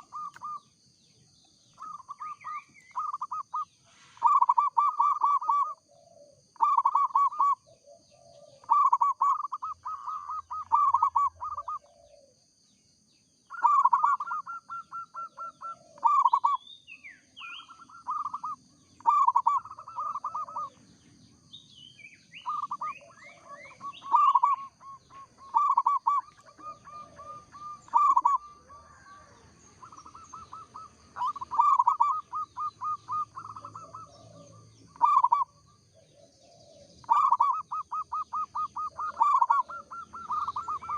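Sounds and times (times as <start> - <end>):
dove cooing: 0.0 - 0.7, 1.7 - 12.4, 13.5 - 16.6, 17.3 - 21.5, 22.2 - 40.9.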